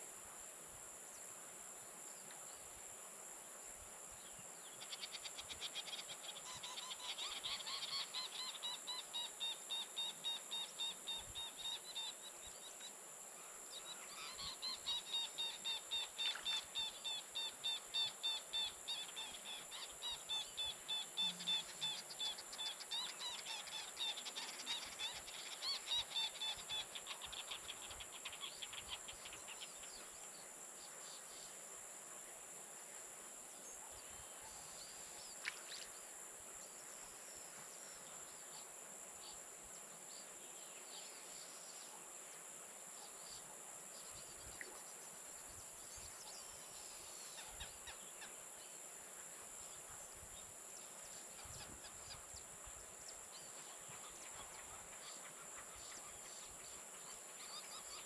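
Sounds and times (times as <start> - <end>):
high insect chorus: 0.0 - 58.0.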